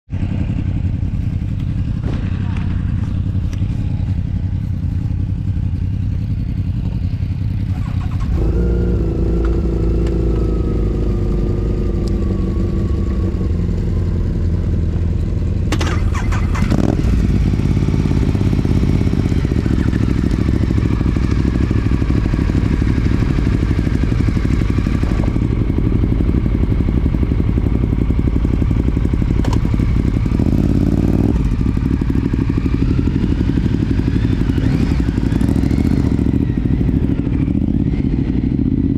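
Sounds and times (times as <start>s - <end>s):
motorcycle engine running: 0.1s - 38.9s
road and wind noise: 0.1s - 38.9s.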